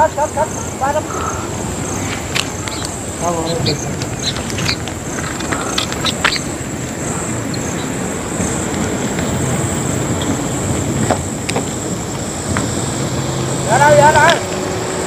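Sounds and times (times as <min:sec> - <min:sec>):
constant high-pitched whine: 0:00.0 - 0:15.0
even rushing haze: 0:00.0 - 0:15.0.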